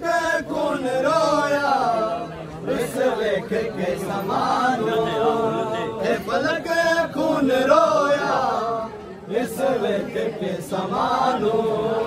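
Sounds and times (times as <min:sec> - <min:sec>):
men chanting a lament: 0:00.0 - 0:12.0.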